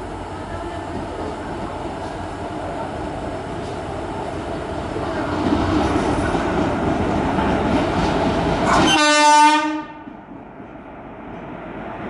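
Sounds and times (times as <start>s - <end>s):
train wheels rattling on rails: 0.0s - 12.0s.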